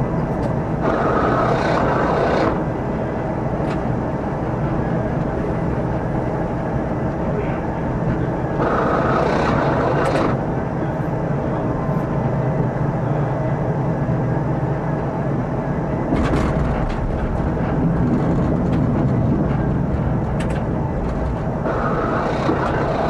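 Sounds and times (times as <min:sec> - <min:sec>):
tram rumbling on track: 0:00.0 - 0:23.0.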